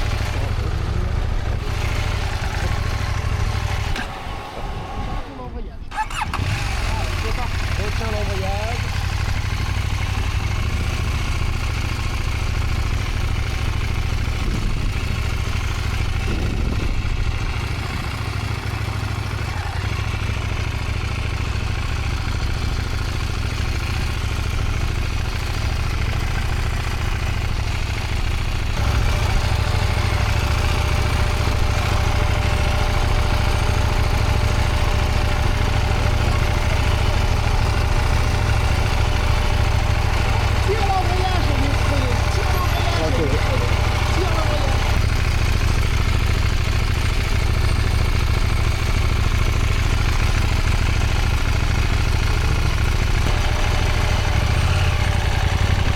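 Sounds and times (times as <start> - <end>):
motorcycle engine at low speed: 0.0 - 55.9.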